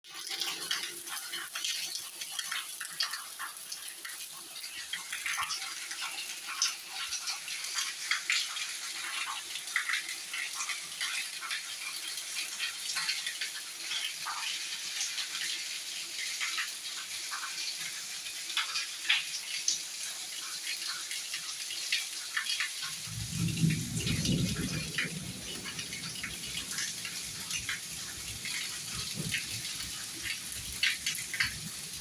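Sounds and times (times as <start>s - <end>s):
water running and splashing: 0.0s - 32.0s.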